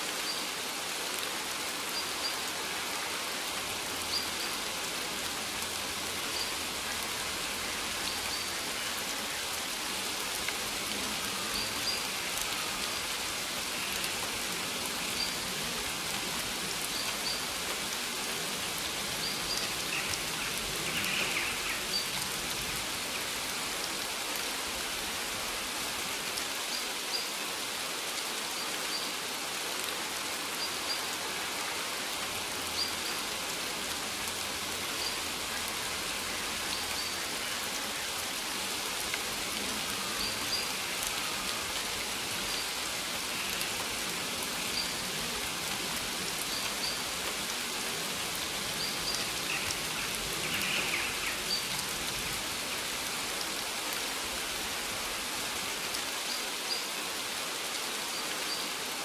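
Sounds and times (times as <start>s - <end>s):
rain falling on a field: 0.0s - 59.0s.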